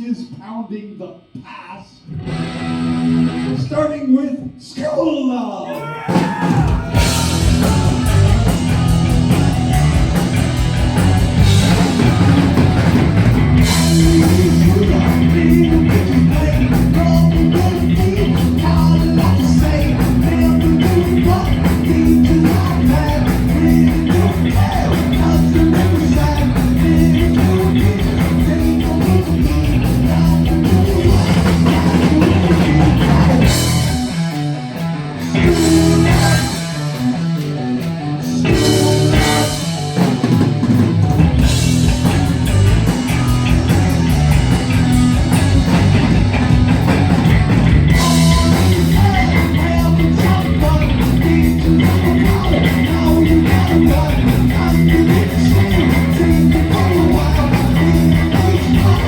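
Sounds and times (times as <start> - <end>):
heavy metal band playing live: 2.1 - 3.8, 5.8 - 59.0.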